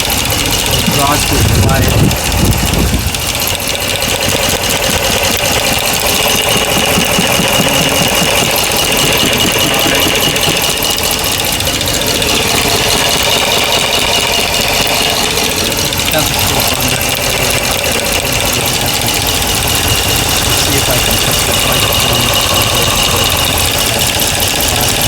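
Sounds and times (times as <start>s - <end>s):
engine idling: 0.0s - 25.0s
valve train ticking rapidly: 0.0s - 25.0s.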